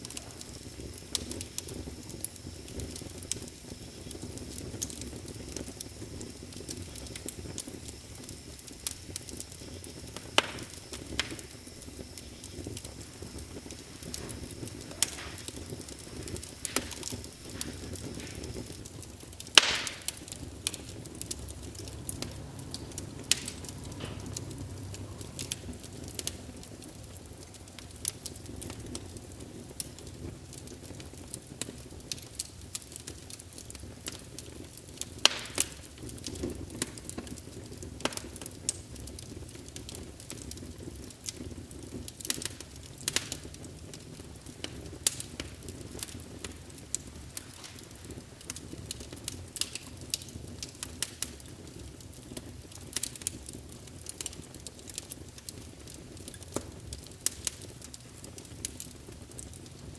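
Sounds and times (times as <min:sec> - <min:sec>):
fire crackling and popping: 0:00.0 - 0:59.9
low rush of flame: 0:00.0 - 0:59.9.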